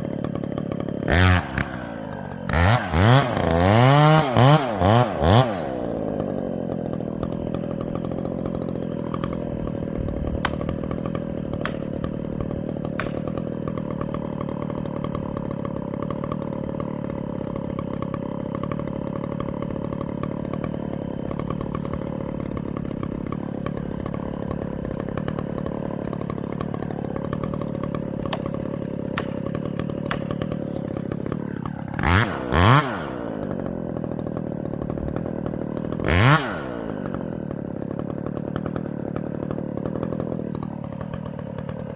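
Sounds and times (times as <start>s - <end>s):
chainsaw engine idling and revving: 0.0s - 41.9s.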